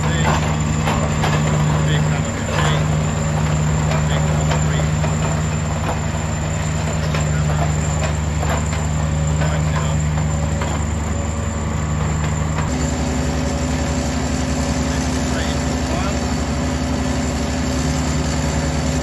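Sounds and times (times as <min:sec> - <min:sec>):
piling rig engine running: 0:00.0 - 0:19.0.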